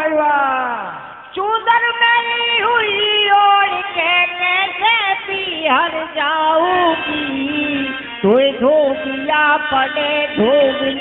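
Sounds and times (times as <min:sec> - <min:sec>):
man singing through amplification: 0:00.0 - 0:11.0.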